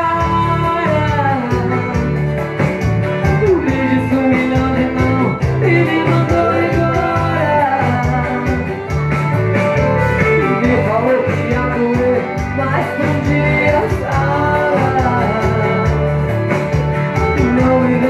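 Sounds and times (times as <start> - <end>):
person singing into microphone: 0.0 - 9.2, 9.9 - 18.0
amplified music with steady beat: 0.0 - 18.0.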